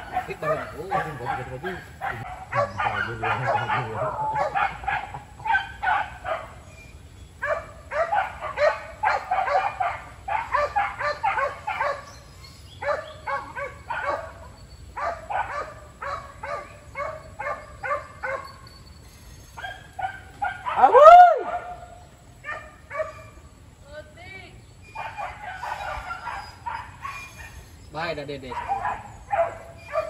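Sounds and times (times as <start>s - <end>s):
dogs barking: 0.0s - 6.7s, 7.4s - 18.8s, 19.6s - 23.5s, 24.9s - 30.0s.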